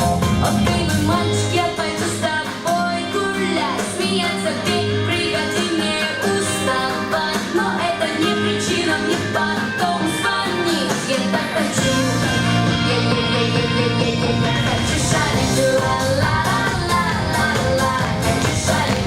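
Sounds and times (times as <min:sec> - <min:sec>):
girl singing pop song: 0:00.0 - 0:19.0
guitar accompaniment: 0:00.0 - 0:19.0.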